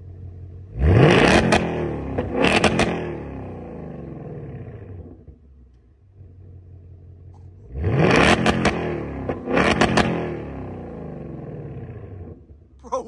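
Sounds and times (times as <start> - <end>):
car exhaust idling and revving: 0.0 - 13.0
exhaust cracks: 0.8 - 12.8.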